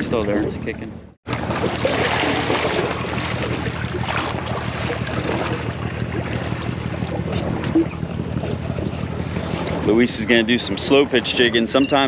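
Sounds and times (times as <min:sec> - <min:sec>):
water washing against boat hull: 0:01.3 - 0:12.0.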